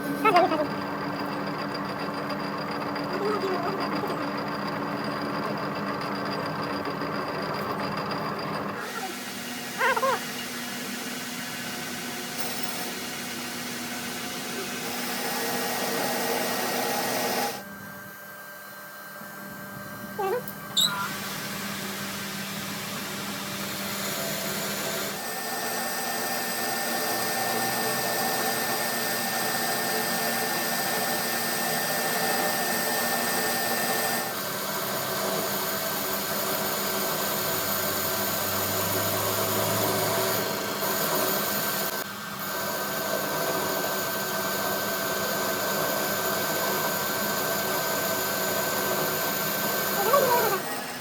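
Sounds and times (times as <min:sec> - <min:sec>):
power tool running: 0:00.0 - 0:17.7, 0:21.0 - 0:51.0.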